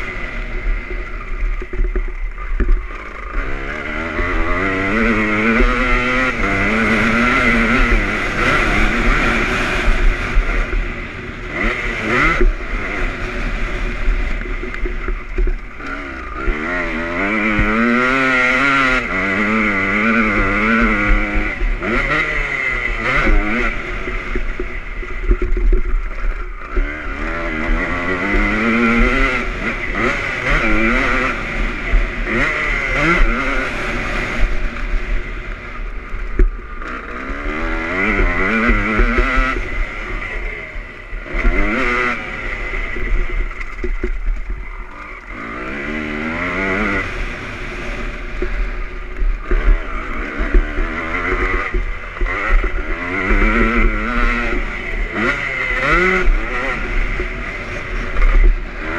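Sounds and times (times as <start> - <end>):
two-stroke motocross engine revving: 0.0 - 58.9.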